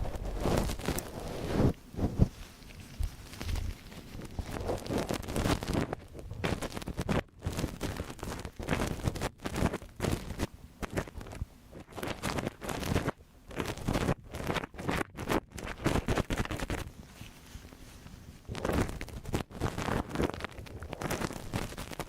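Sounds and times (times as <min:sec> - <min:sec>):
scratching and rubbing at microphone: 0:00.0 - 0:22.0.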